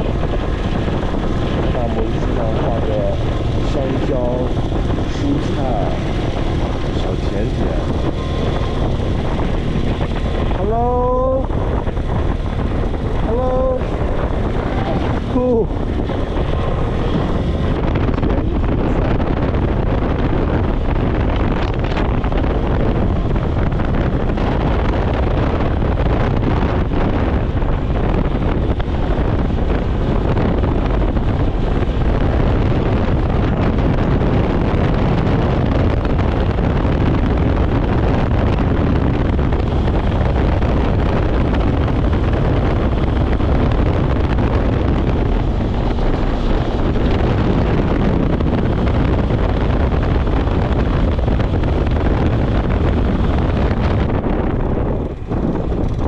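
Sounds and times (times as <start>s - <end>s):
road and motor rumble: 0.0s - 56.0s
wind rushing over microphone: 0.0s - 56.0s.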